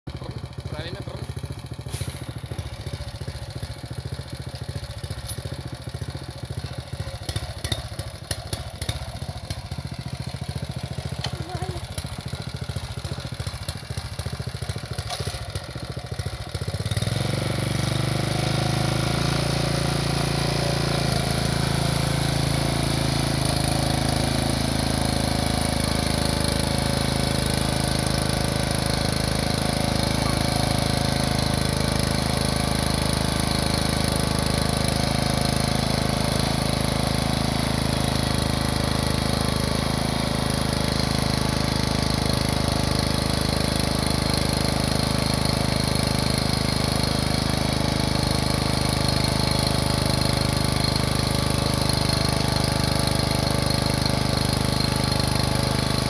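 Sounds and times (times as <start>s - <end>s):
tractor engine puttering: 0.1s - 56.0s.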